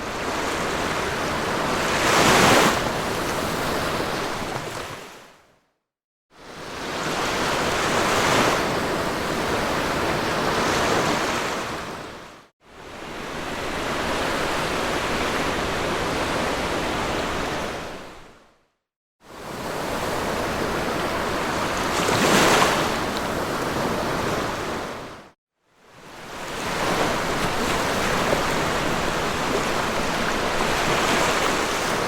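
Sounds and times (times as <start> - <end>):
sea waves breaking on a beach: 0.0 - 5.4, 6.4 - 18.4, 19.2 - 32.0.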